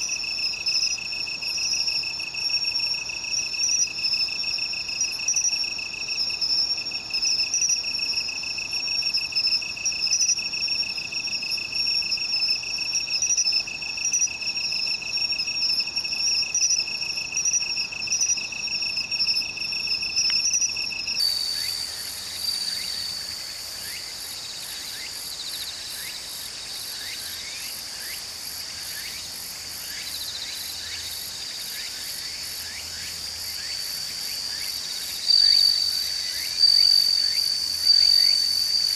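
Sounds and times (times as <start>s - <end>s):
insect chirps: 0.0s - 38.9s
insects trilling: 0.0s - 38.9s.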